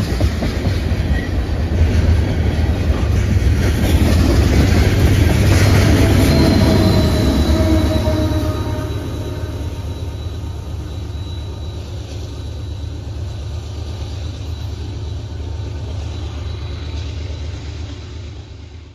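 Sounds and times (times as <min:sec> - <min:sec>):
train rumbling past: 0:00.0 - 0:18.9.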